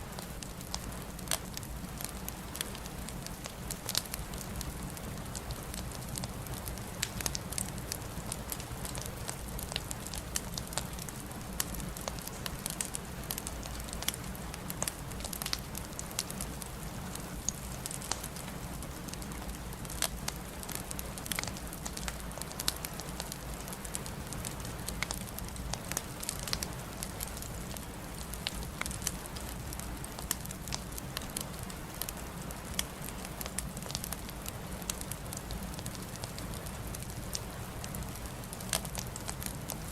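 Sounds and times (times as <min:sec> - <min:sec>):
low rumble and hiss of flames: 0:00.0 - 0:39.9
wood fire crackling: 0:00.1 - 0:39.9
sharp pops and snaps: 0:05.2 - 0:16.8, 0:17.4 - 0:39.8.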